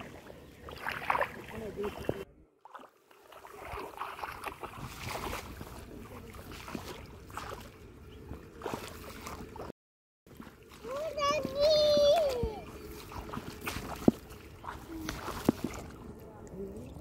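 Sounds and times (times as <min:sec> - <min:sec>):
muddy water splashing: 0:00.0 - 0:09.7, 0:10.3 - 0:17.0.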